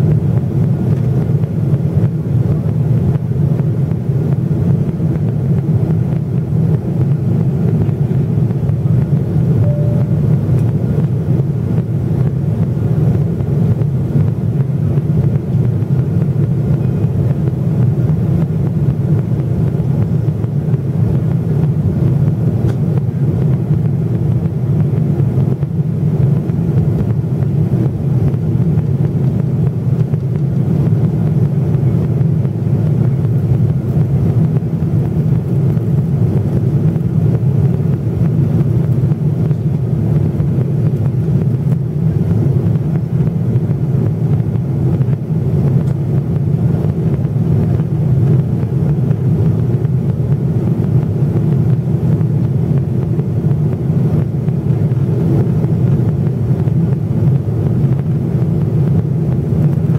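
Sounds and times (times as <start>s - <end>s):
airplane cabin rumble: 0.0s - 59.9s
faint steady hum: 0.0s - 59.9s.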